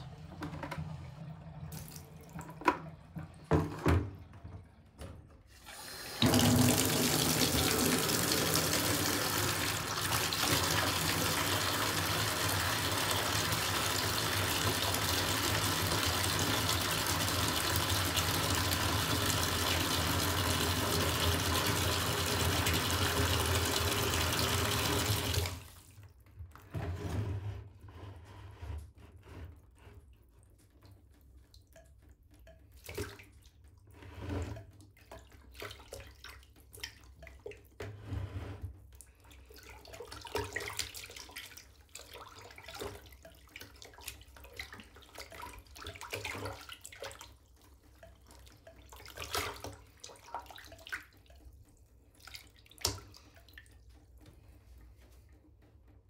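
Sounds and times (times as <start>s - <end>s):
tap water splashing into bucket: 0.0s - 26.9s, 30.4s - 38.0s, 38.7s - 55.7s.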